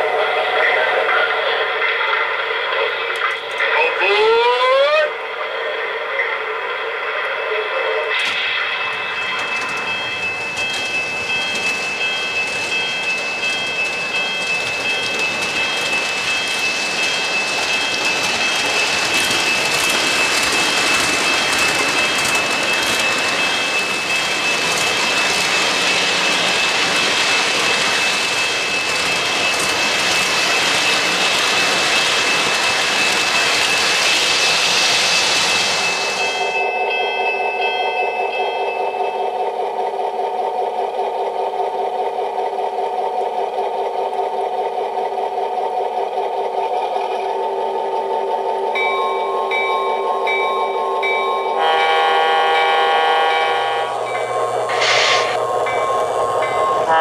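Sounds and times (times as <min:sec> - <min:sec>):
model train wheels on rail: 0:04.9 - 0:57.0.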